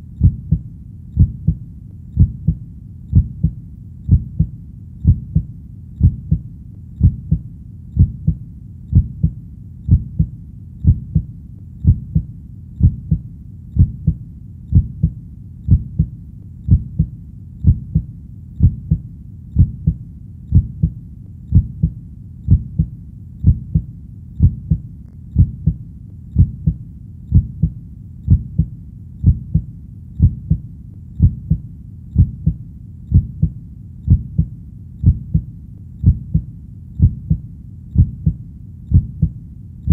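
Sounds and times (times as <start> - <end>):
heartbeat lub-dub: 0.0 - 39.9.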